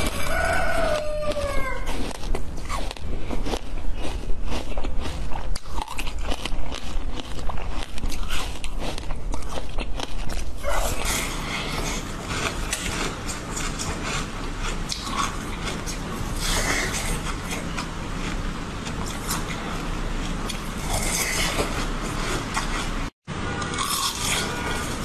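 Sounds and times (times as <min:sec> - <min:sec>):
chewing and biting food: 0:00.0 - 0:25.0
crackling chewing: 0:00.0 - 0:25.0.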